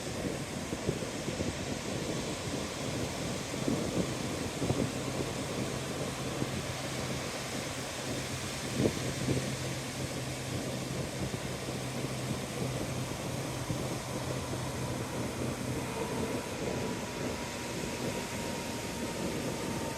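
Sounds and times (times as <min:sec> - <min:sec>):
low engine-like hum: 0:00.0 - 0:19.9.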